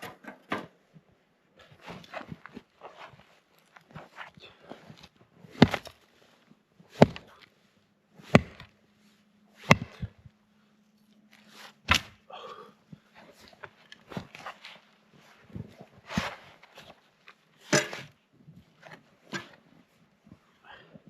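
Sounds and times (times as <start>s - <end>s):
crunching and scraping: 1.6s - 12.2s, 12.8s - 20.5s.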